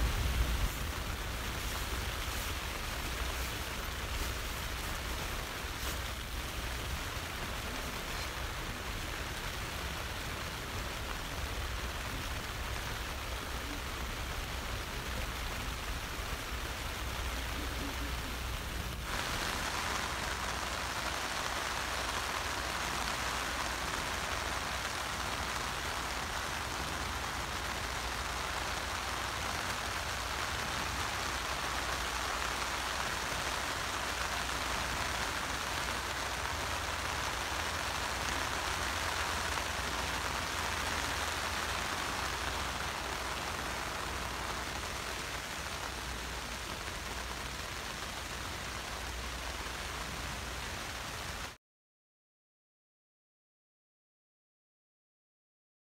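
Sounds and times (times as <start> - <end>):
rain on tent: 0.0 - 51.6.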